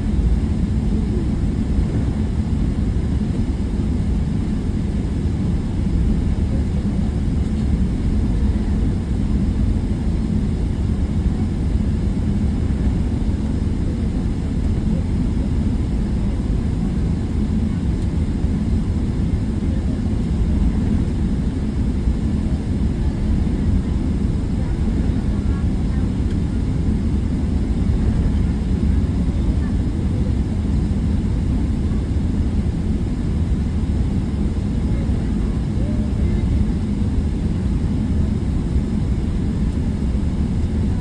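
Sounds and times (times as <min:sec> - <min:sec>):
jet engine rumble in cabin: 0:00.0 - 0:41.0.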